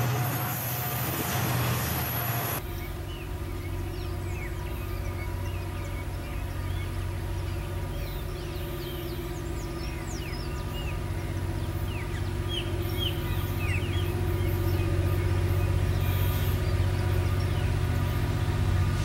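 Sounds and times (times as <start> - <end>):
diesel locomotive engine humming: 0.0 - 19.0
small birds chirping: 2.4 - 19.0.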